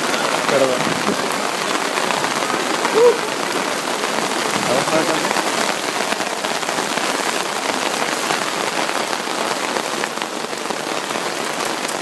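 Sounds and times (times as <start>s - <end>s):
light rain patter: 0.0s - 12.0s.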